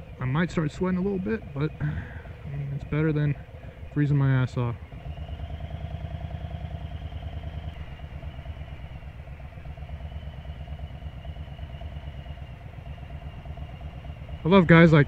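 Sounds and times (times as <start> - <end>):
motorcycle engine running low: 0.0 - 15.0.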